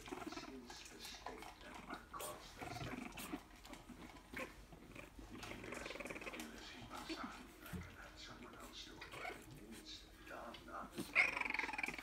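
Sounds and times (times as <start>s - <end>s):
puppies making faint vocal sounds: 0.0s - 12.0s.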